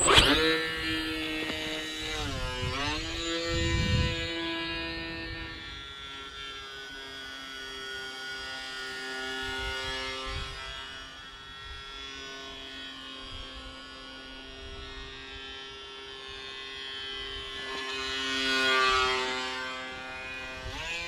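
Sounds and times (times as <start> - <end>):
rc plane motor buzzing: 0.0 - 21.0.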